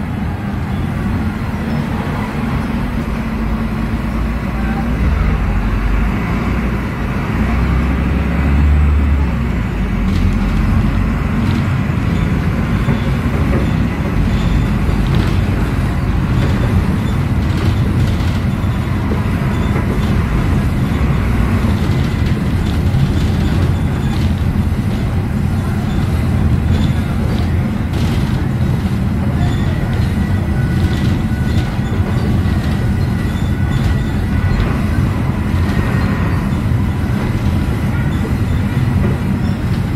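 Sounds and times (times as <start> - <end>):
bus engine low rumble: 0.0 - 39.9.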